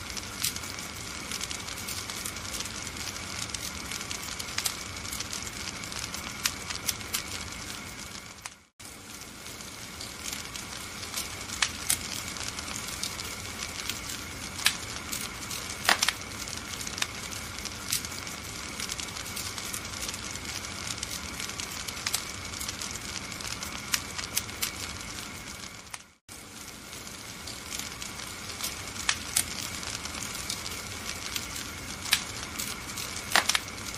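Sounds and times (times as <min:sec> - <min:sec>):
fireplace fire crackling and popping: 0:00.0 - 0:33.9.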